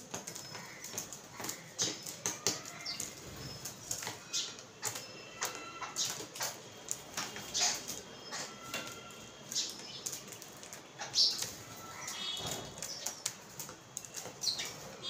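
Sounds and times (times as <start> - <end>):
beaks pecking on table: 0.0 - 15.0.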